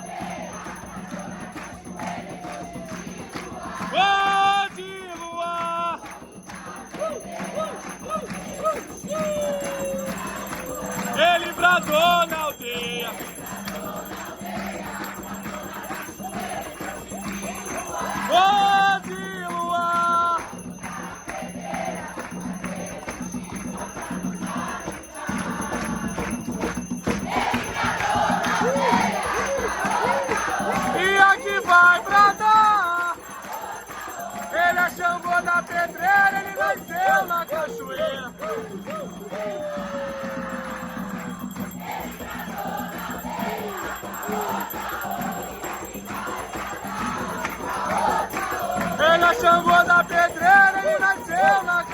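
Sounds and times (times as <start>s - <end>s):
bell-like jingles: 0.0s - 51.9s
group singing: 0.0s - 51.9s
percussion steady beat: 0.0s - 51.9s.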